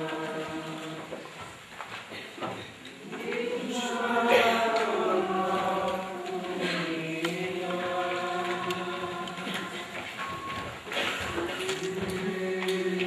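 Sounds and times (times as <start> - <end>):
group singing wordless chant: 0.0 - 1.6, 2.4 - 13.0.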